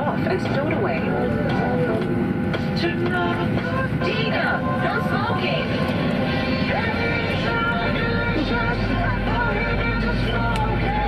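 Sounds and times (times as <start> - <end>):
low cabin hum: 0.0 - 11.0
music through cabin speakers: 0.0 - 11.0.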